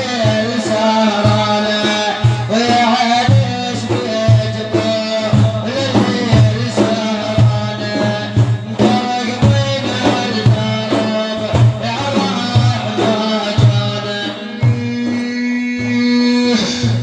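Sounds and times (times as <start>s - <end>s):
low drum beat: 0.0s - 17.0s.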